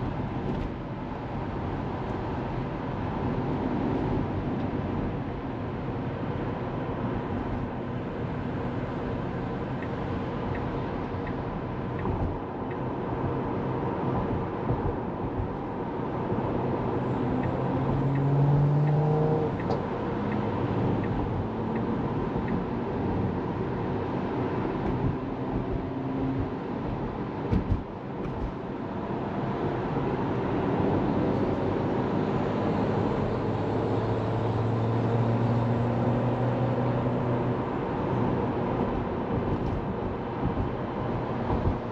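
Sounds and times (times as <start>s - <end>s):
road and tyre noise inside car: 0.0s - 41.9s.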